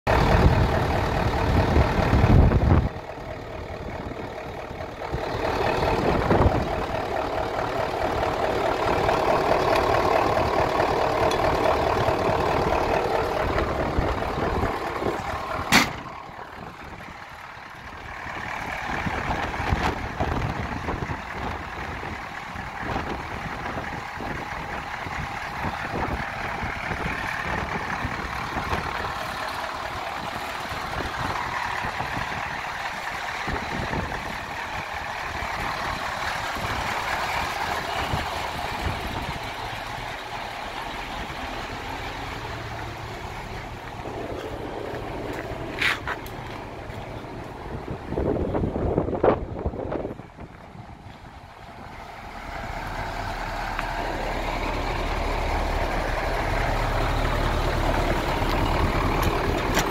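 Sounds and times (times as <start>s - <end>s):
diesel truck engine idling: 0.1s - 59.9s.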